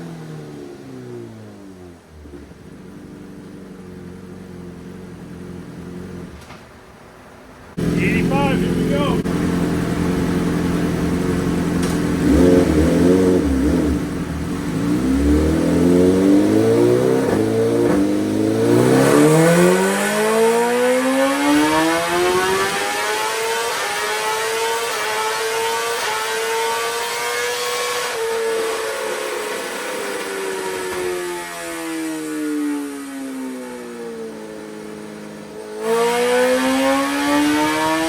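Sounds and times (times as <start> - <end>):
motorcycle engine revving: 0.0 - 6.4, 7.8 - 38.0.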